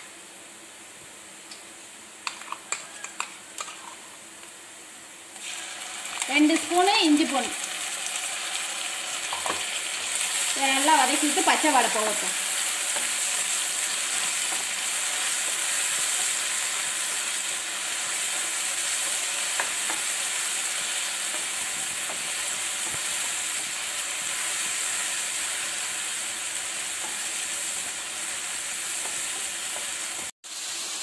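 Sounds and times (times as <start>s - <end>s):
onions sizzling in pan: 0.0s - 31.0s.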